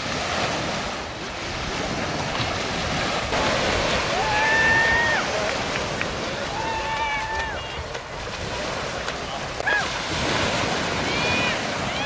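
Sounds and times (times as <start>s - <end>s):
ocean surf washing on beach: 0.0s - 12.0s.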